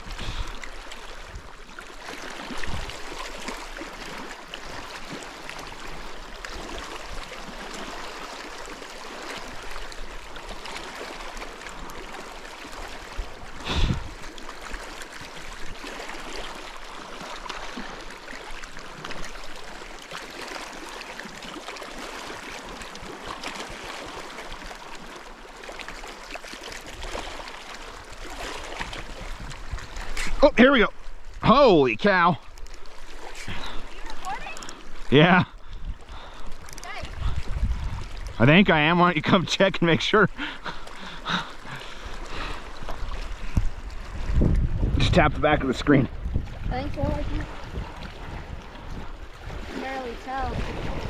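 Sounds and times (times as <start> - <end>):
running water gurgling: 0.0 - 51.0.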